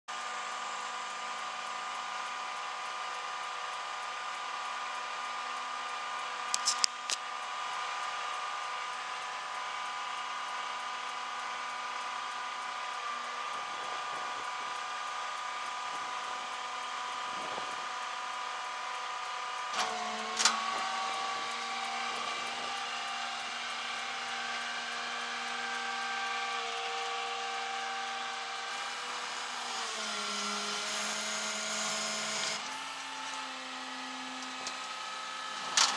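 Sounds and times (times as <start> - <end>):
motor whining: 6.2 - 35.9.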